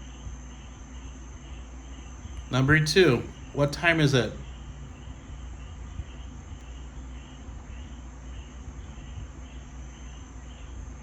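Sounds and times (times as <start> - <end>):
low steady hum: 1.9 - 10.7.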